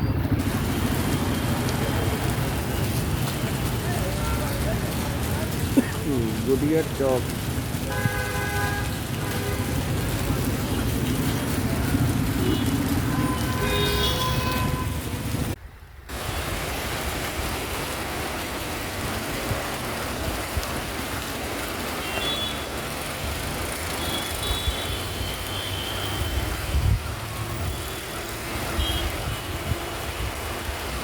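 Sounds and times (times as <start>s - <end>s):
traffic engines and tyre hiss: 0.0s - 31.0s.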